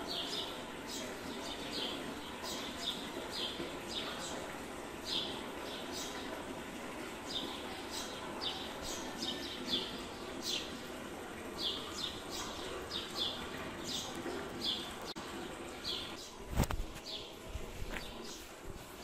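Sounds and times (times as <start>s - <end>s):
small birds chirping: 0.0s - 18.5s.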